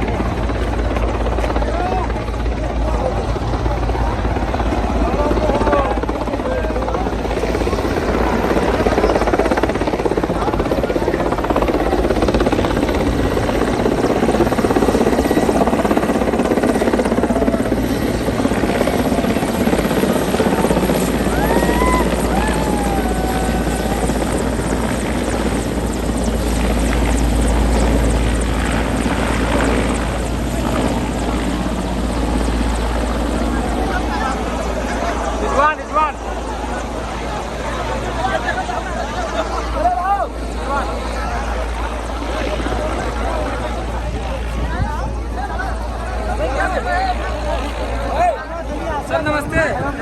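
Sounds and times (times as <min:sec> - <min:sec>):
helicopter rotors and engines: 0:00.0 - 0:50.0.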